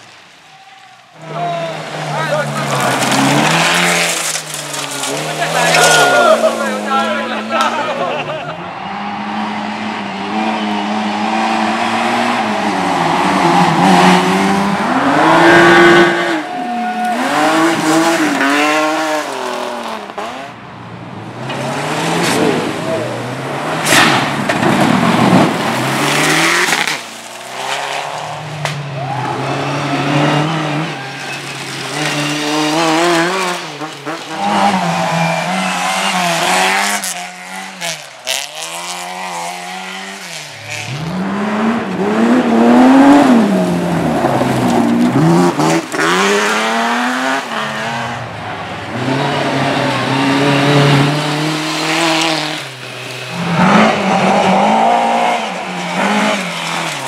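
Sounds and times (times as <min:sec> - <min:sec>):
racing car engines revving: 0:01.1 - 0:57.0.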